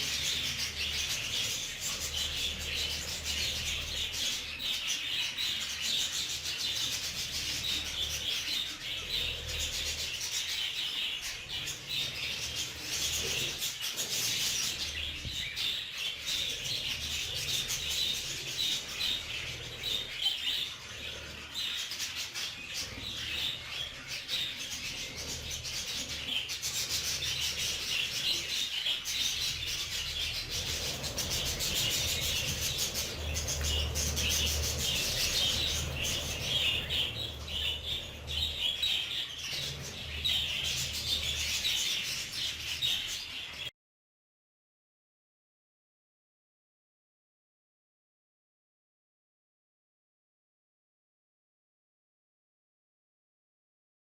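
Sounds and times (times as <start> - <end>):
budgerigars chattering: 0.0 - 43.6.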